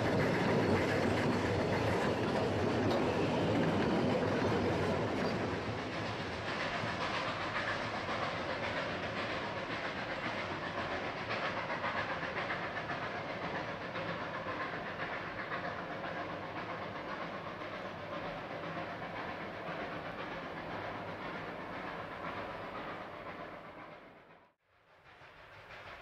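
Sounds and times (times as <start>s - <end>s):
train running on track: 0.0s - 26.0s.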